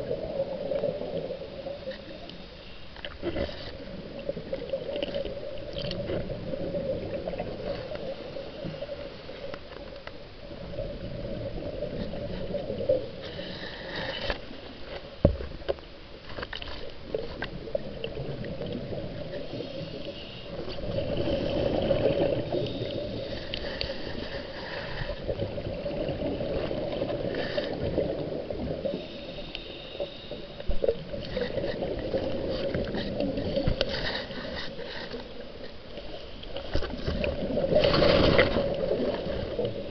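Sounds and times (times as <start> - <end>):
muffled underwater gurgling: 0.0 - 9.6, 17.0 - 39.9.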